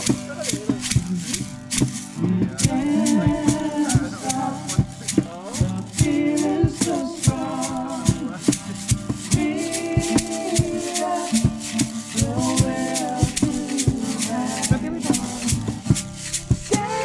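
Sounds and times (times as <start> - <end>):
backing track with shaker percussion: 0.0 - 17.0
person singing: 2.1 - 17.0.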